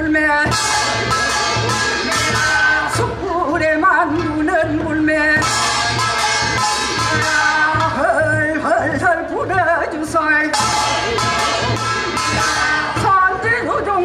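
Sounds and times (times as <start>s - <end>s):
ornamented sung melody: 0.0s - 14.0s
steady drum beat: 0.0s - 14.0s.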